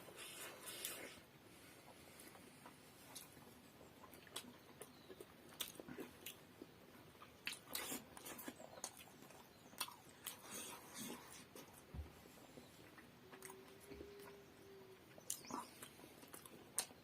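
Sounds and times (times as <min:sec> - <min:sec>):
people chewing food: 0:00.0 - 0:17.0.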